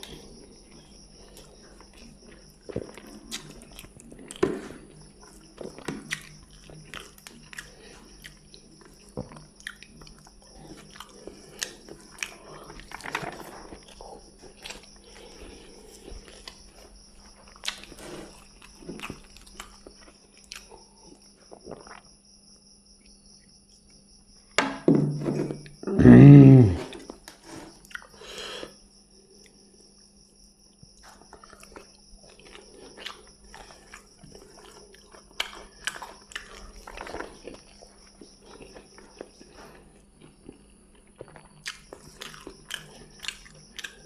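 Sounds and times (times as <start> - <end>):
person chewing food: 0.0 - 22.1, 25.5 - 28.7, 30.9 - 44.0.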